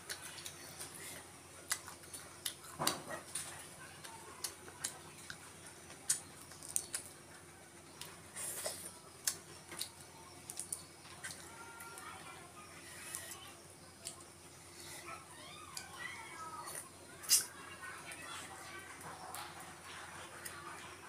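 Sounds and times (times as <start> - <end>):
mouth sounds of eating: 0.0 - 21.0.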